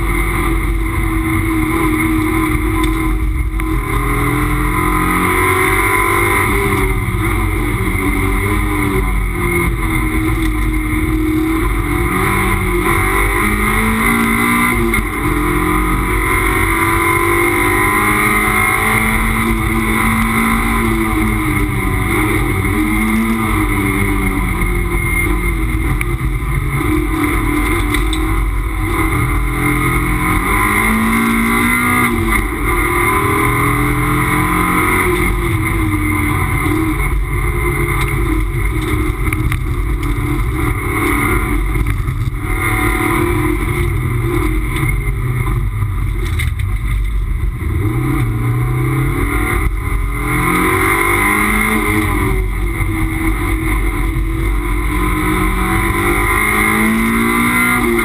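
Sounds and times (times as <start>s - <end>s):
race car engine revving: 0.0s - 58.0s
road and tyre noise: 0.0s - 58.0s.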